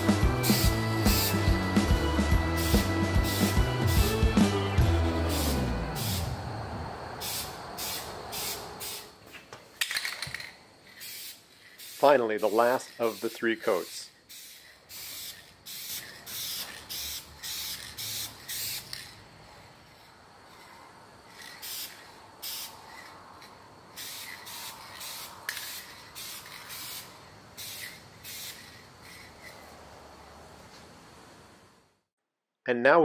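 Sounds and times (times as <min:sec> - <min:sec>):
spray paint can hissing bursts: 0:00.0 - 0:04.5, 0:05.2 - 0:06.3, 0:07.2 - 0:09.2, 0:09.9 - 0:29.8.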